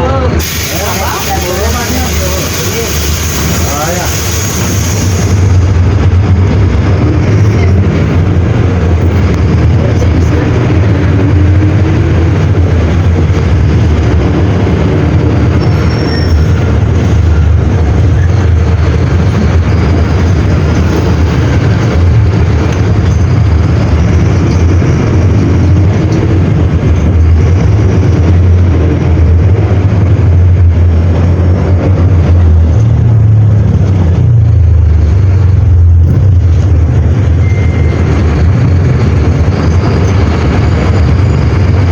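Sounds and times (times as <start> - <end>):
diesel bus engine running: 0.0 - 41.9.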